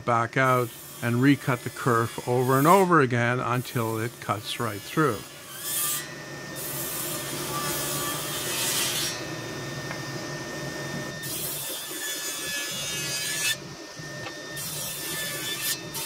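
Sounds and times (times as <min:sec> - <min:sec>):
table saw cutting wood: 0:00.0 - 0:16.0
table saw running: 0:00.0 - 0:16.0.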